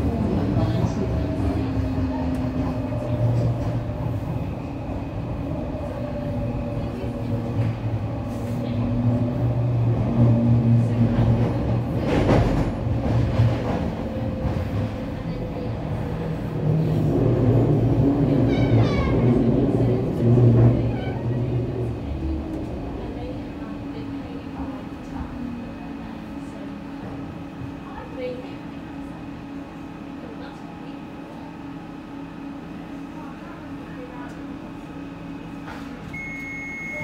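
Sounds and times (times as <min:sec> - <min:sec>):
train hum from inside carriage: 0:00.0 - 0:37.0.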